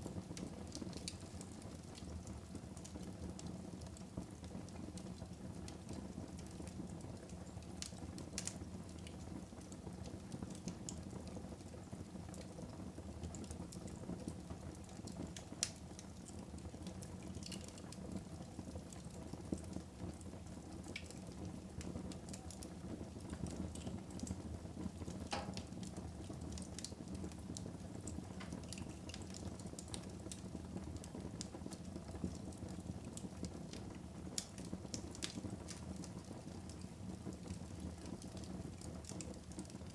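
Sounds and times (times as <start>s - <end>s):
fire burning in fireplace: 0.0s - 39.9s
fire crackles and pops: 0.0s - 39.9s.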